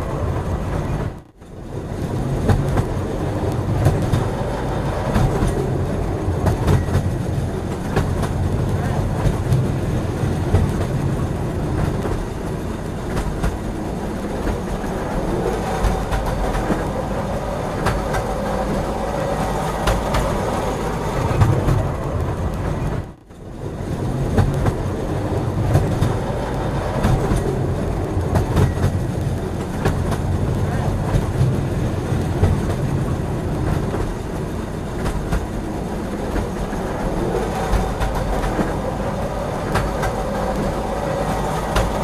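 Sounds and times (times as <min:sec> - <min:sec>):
train rumble: 0:00.0 - 0:42.0
wheels clacking over rails: 0:02.2 - 0:23.2, 0:24.0 - 0:42.0.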